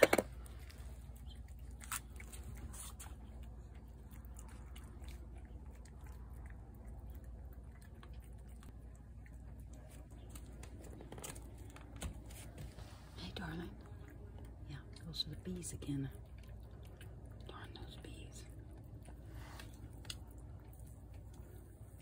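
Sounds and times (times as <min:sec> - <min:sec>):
cats chewing wet food: 0:00.0 - 0:22.0.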